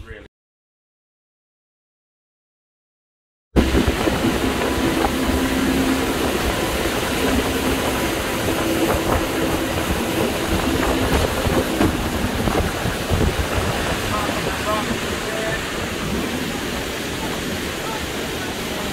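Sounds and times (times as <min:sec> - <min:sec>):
motorboat engine drone: 0:03.6 - 0:18.9
rushing wind and water: 0:03.6 - 0:18.9
wind buffeting microphone: 0:03.6 - 0:18.9.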